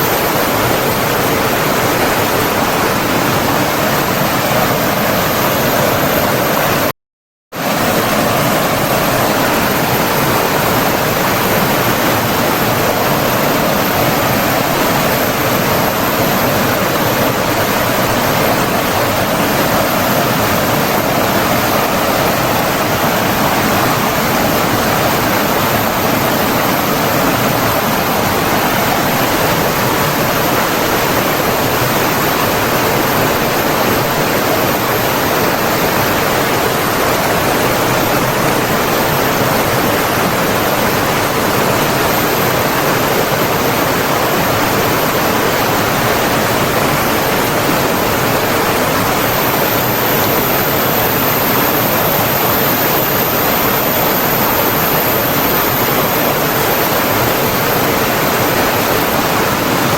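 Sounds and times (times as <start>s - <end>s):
running water rushing: 7.6s - 59.9s.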